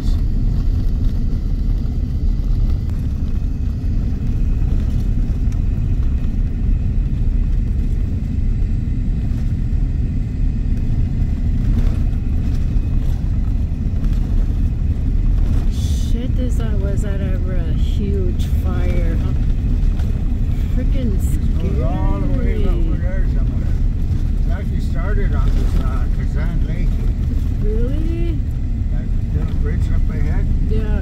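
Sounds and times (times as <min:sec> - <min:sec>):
car interior road rumble: 0:00.0 - 0:31.0.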